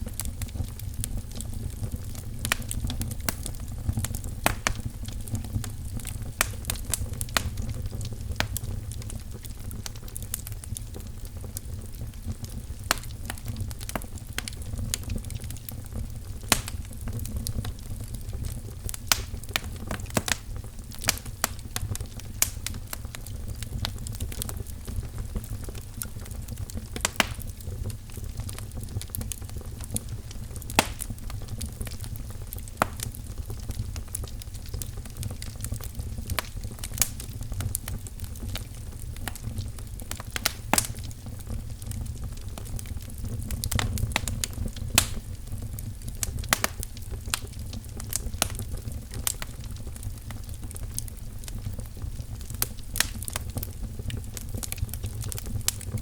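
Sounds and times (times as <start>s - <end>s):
low rumble of burning logs: 0.0s - 56.0s
wood fire crackling and popping: 0.0s - 56.0s.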